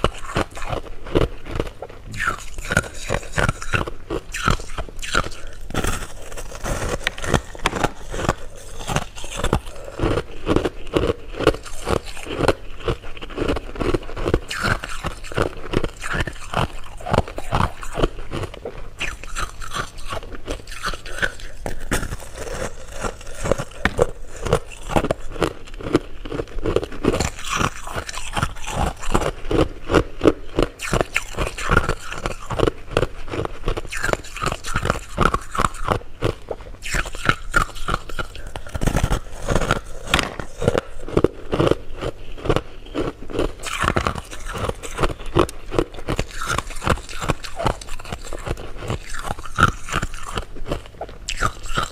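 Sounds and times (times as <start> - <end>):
chewing and crunching candy: 0.0 - 51.9.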